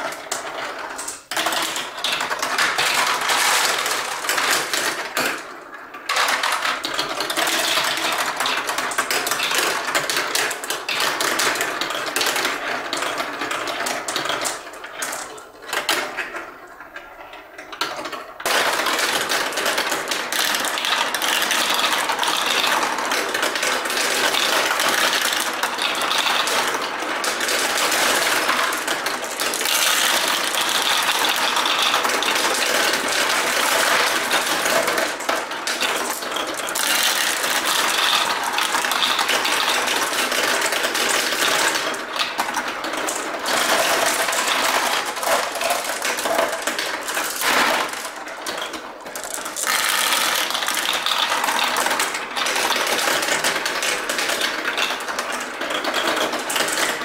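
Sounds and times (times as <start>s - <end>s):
marbles rattling down plastic run: 0.0s - 57.0s.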